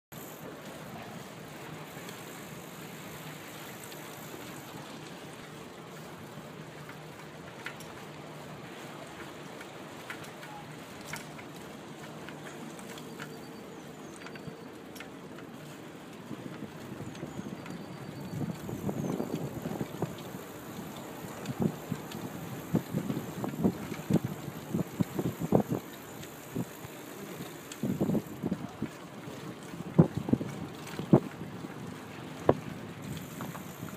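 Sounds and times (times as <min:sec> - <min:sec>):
bicycle rolling over bricks: 0:00.1 - 0:33.9
bike clicks and rattles: 0:00.1 - 0:33.9.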